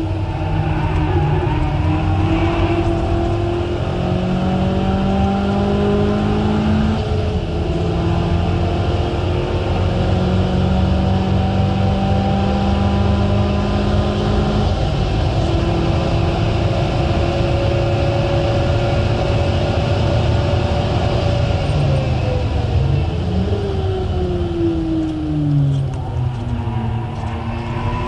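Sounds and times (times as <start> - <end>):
car engine accelerating hard: 0.0 - 28.0
road and wind noise: 0.0 - 28.0.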